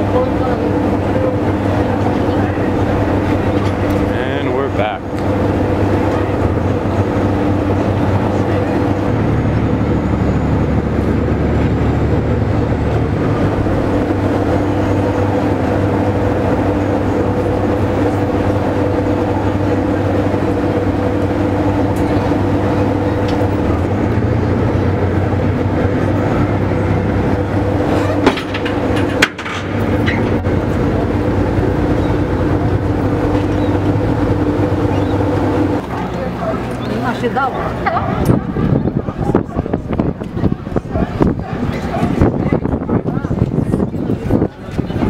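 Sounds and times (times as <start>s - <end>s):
boat engine drone: 0.0s - 45.0s.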